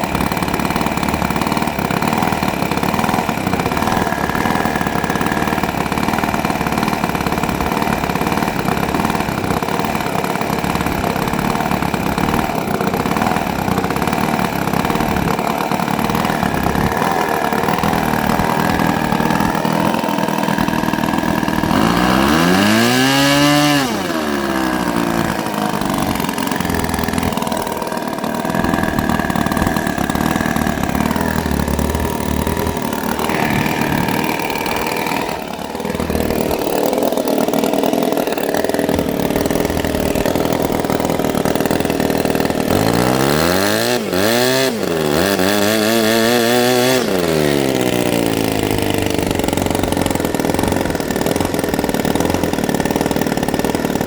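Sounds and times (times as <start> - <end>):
model engine running and revving: 0.0 - 54.0.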